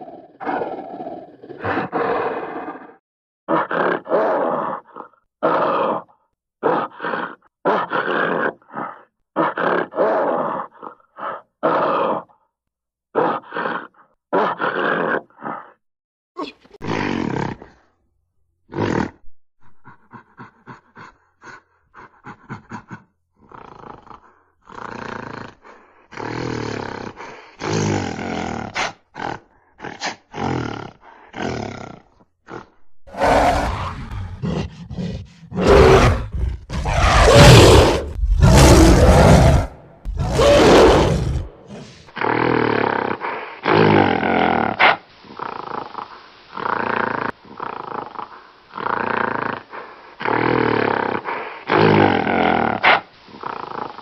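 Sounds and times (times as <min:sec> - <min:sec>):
gorilla roars and grunts: 0:00.0 - 0:12.5, 0:13.1 - 0:15.8, 0:16.4 - 0:17.9, 0:18.7 - 0:54.0.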